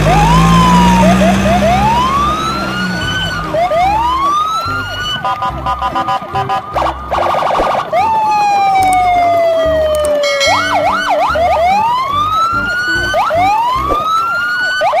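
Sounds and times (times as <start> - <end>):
low electronic tune: 0.0 - 14.2
electronic siren: 0.0 - 15.0.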